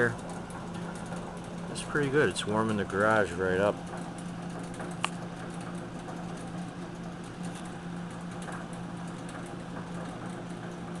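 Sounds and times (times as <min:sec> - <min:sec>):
circulating pump running: 0:00.0 - 0:11.0
furnace blower fan hum: 0:00.0 - 0:11.0.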